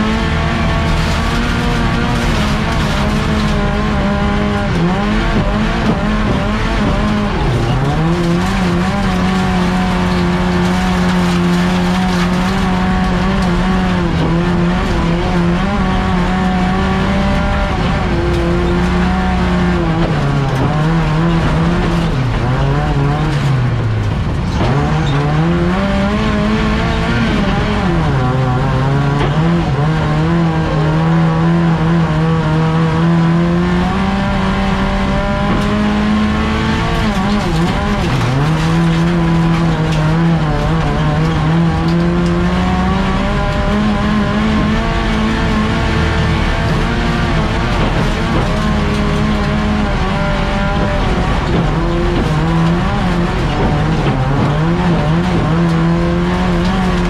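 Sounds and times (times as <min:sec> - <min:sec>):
car engine revving high: 0:00.0 - 0:57.0.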